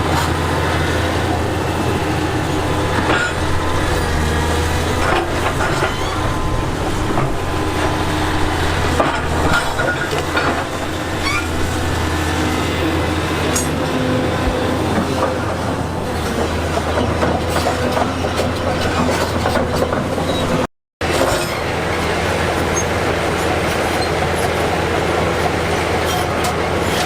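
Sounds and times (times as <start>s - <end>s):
diesel engine humming: 0.0s - 27.0s
steel tracks clanking and squealing: 0.0s - 27.0s.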